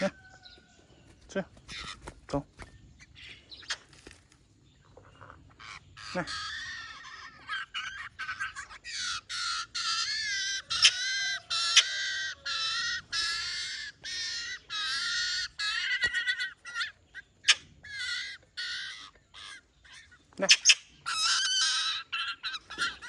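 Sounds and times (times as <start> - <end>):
young birds begging calls: 0.0 - 23.0.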